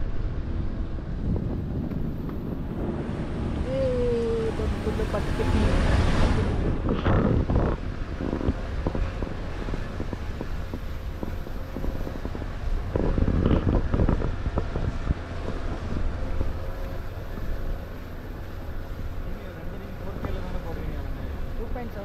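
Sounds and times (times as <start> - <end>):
car rumbling on rough road: 0.0 - 22.0.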